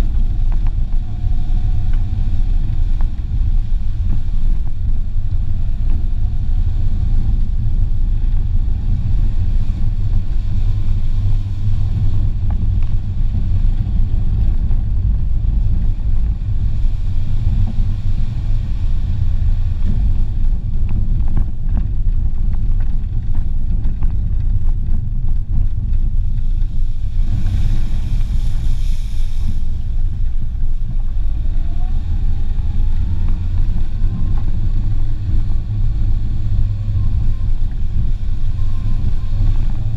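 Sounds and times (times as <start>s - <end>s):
car engine rumble: 0.0s - 39.9s
tyres on dirt track: 0.0s - 39.9s
wind on microphone: 0.0s - 39.9s.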